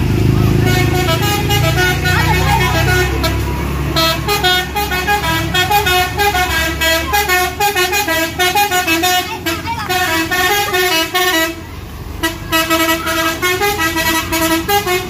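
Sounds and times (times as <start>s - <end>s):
bus engine rumbling: 0.0s - 15.0s
musical bus horn melody: 0.4s - 15.0s.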